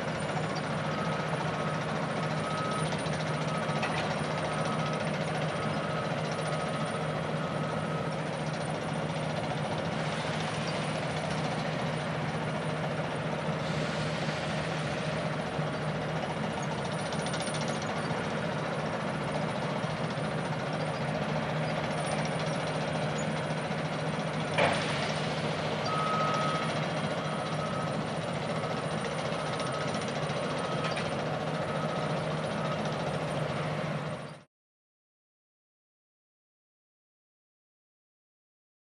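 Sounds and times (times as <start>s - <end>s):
heavy machinery low hum: 0.0s - 34.4s
truck reversing alarm beeps: 0.0s - 34.5s.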